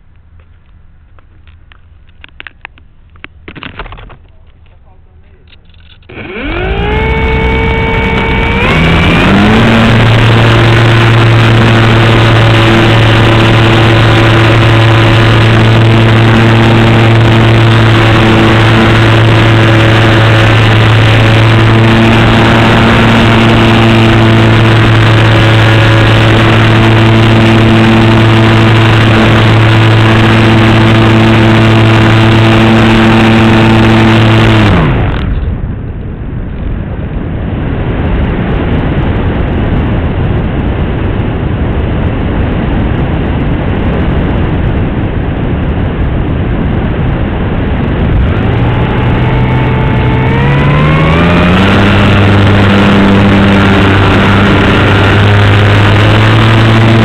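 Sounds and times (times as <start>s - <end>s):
model airplane motor and propeller: 0.3s - 35.6s, 46.6s - 57.0s.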